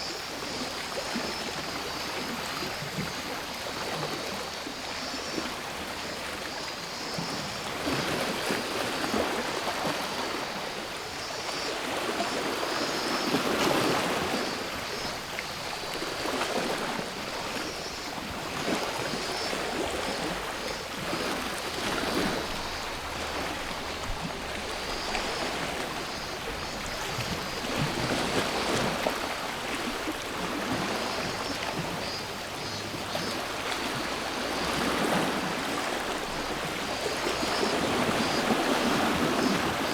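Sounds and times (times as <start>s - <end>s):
cicadas buzzing: 0.0s - 39.9s
sea waves washing ashore: 0.0s - 39.9s.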